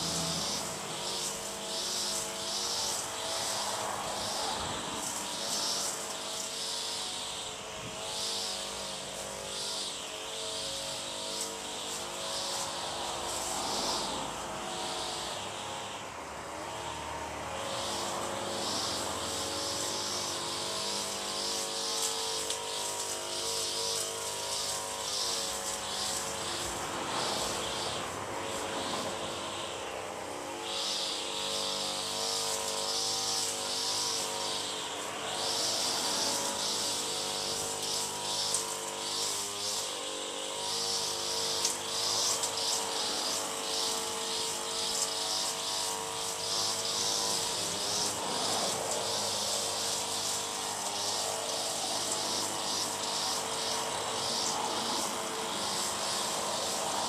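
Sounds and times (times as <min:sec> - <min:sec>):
engine drone: 0:00.0 - 0:57.0
high hiss: 0:00.0 - 0:57.0.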